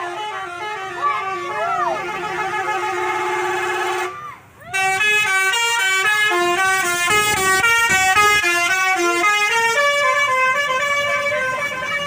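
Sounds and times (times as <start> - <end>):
bus musical air horn: 0.0 - 12.0.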